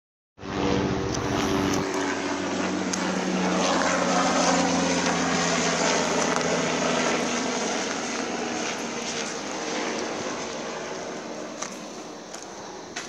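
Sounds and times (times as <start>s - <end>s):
engine droning: 0.4s - 13.0s.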